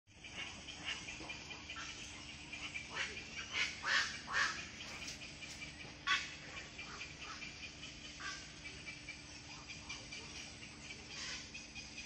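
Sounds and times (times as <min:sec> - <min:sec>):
chatter of many birds: 0:00.1 - 0:12.0
harsh bird squawks: 0:00.2 - 0:05.1, 0:06.0 - 0:12.0.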